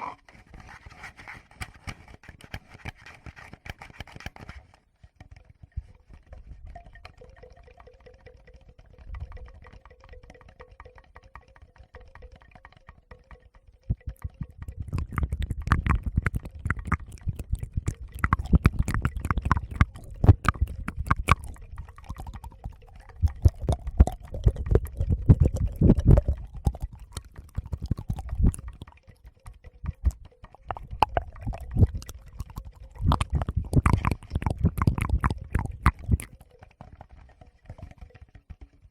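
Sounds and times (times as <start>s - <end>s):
fingers tapping on recorder: 5.2s - 38.9s.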